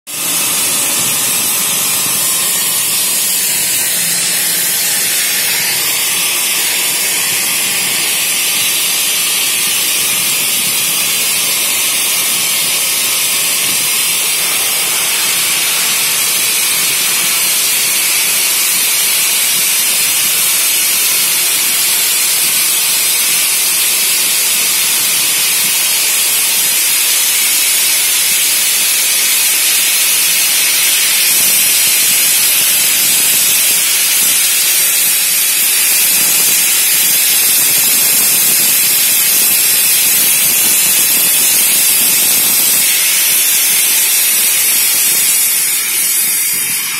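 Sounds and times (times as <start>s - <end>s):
gas torch flame hissing: 0.1s - 46.9s.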